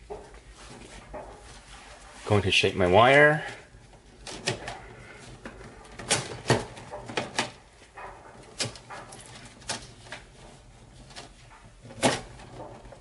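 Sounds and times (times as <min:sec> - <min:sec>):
wire handling clicks and knocks: 0:00.0 - 0:02.0, 0:03.5 - 0:13.0.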